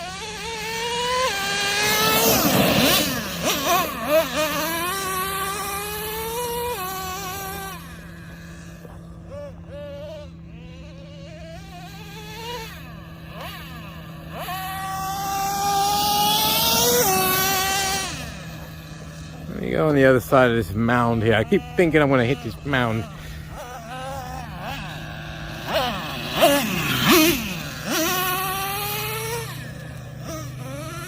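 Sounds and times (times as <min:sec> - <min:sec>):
small engine revving with whine: 0:00.0 - 0:31.0.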